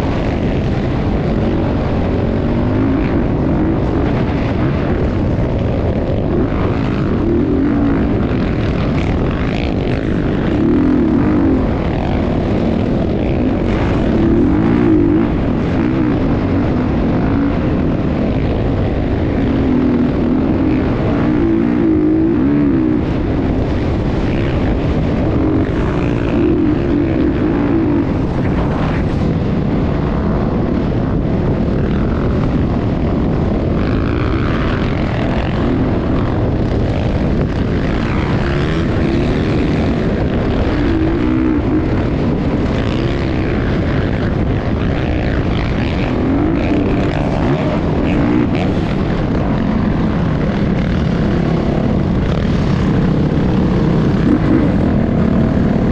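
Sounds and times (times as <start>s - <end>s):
dense low rumble: 0.0s - 55.9s
motorbike engine revving: 0.0s - 55.9s.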